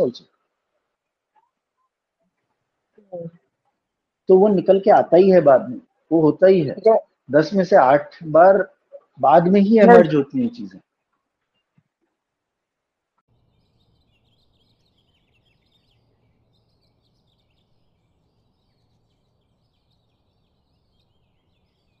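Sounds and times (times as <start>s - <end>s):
small birds chirping: 0.0s - 12.0s, 13.2s - 22.0s.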